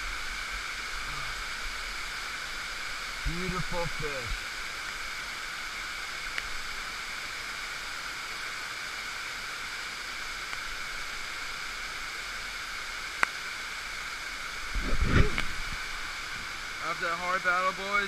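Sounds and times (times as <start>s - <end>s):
rain: 0.0s - 18.0s
running stream water: 0.0s - 18.0s.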